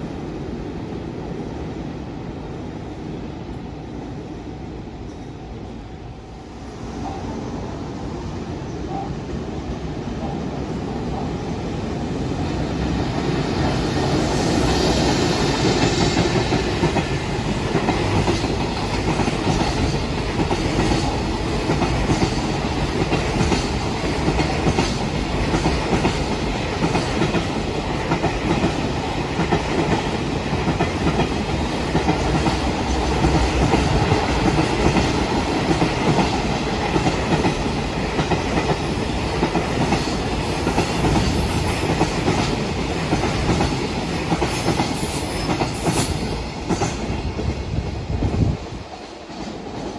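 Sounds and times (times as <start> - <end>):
freight train passing: 0.0 - 49.9.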